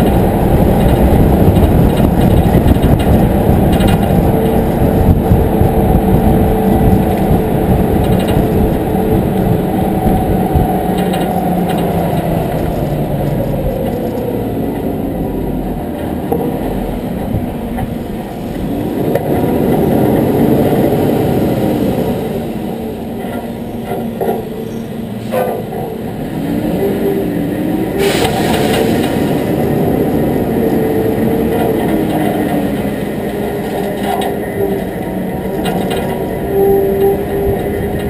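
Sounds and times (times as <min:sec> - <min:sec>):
truck engine and tyre noise: 0:00.0 - 0:38.0.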